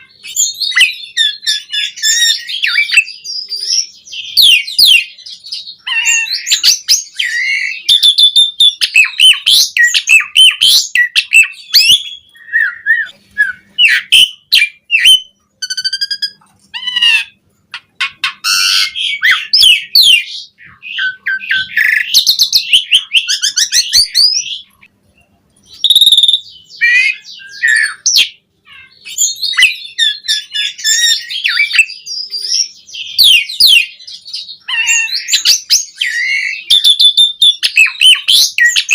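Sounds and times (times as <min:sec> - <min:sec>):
starling singing: 0:00.0 - 0:25.0, 0:25.6 - 0:38.9.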